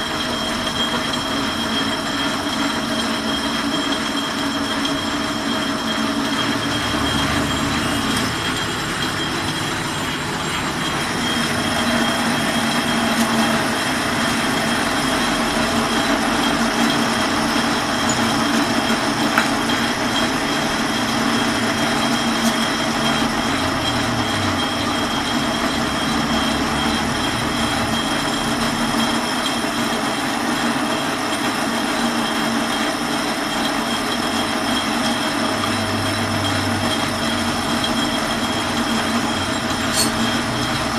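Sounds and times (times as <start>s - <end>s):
high whine of cutting tool: 0.0s - 40.9s
metal lathe running: 0.0s - 40.9s.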